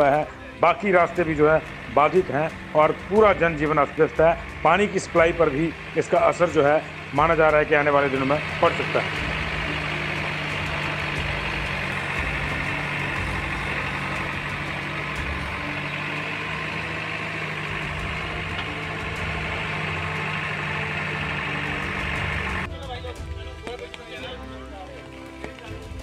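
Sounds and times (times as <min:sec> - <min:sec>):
backhoe diesel engine running: 0:00.0 - 0:26.0.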